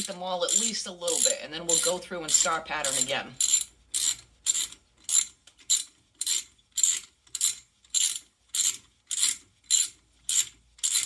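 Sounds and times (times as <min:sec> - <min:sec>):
hand ratchet clicking: 0:00.0 - 0:11.0.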